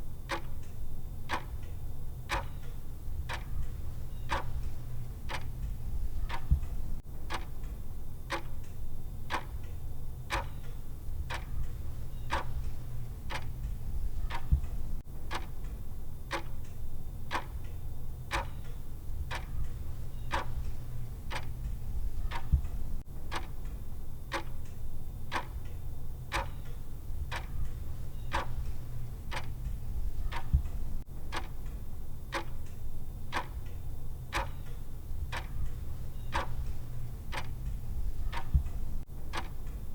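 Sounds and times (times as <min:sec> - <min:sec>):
low steady hum: 0:00.0 - 0:39.9
clock tick-tock: 0:00.2 - 0:39.9.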